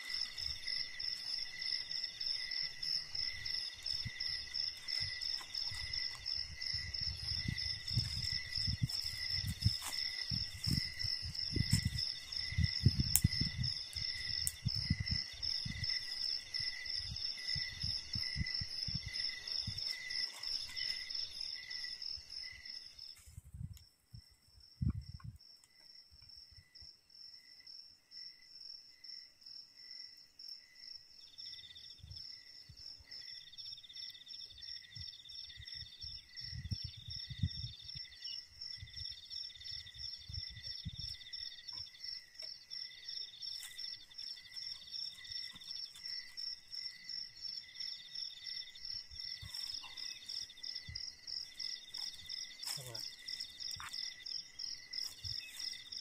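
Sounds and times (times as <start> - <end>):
high pulsing insect chirp: 0.0 - 56.0.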